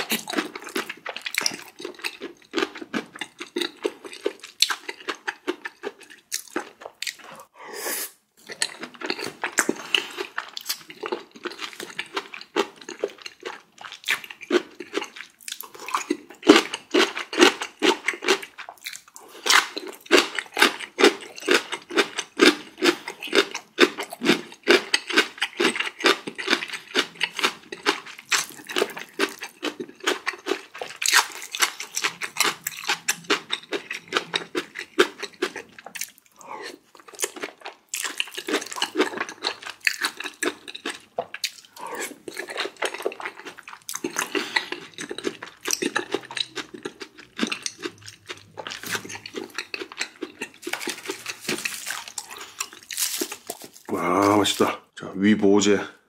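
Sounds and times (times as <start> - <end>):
wet chewing and mouth smacking: 0.0 - 7.5, 8.4 - 54.0.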